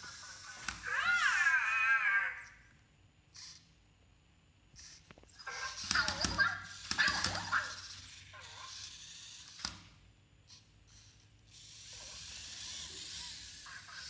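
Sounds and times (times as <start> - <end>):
toy robots electronic chirps: 0.0 - 2.6, 3.3 - 3.8, 4.7 - 9.7, 10.4 - 14.0
soft whirring hiss: 0.0 - 14.0.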